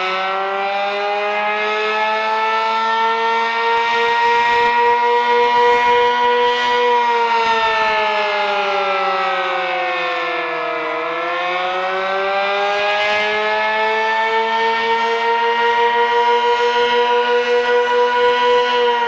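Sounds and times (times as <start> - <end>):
dual-tone warning siren: 0.0 - 19.0.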